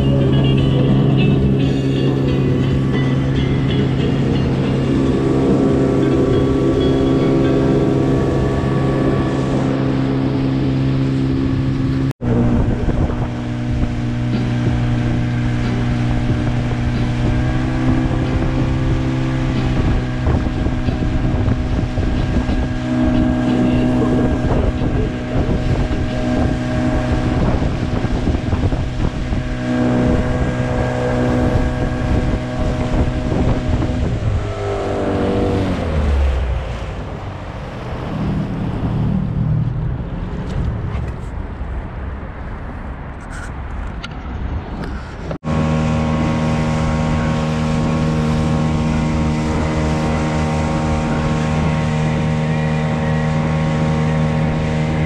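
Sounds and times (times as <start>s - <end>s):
outboard motor running: 0.0s - 39.6s, 45.2s - 55.0s
water noise: 0.0s - 55.0s
wind: 0.0s - 55.0s.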